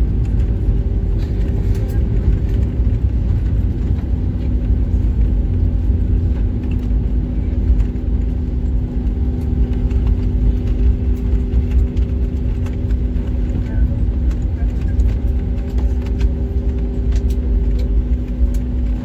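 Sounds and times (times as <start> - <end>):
low rumble of runway and engines: 0.0 - 19.0
steady cabin hum: 0.0 - 19.0.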